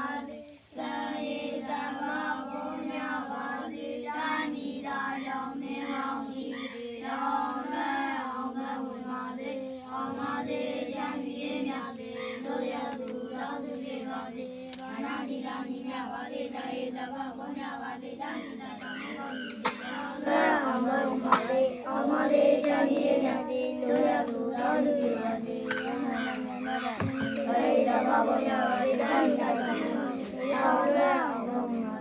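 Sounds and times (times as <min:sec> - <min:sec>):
children chanting in unison: 0:00.0 - 0:32.0.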